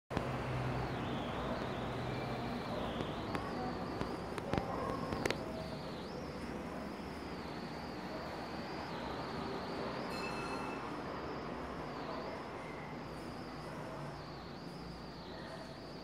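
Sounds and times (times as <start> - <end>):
room noise hiss: 0.1 - 16.0.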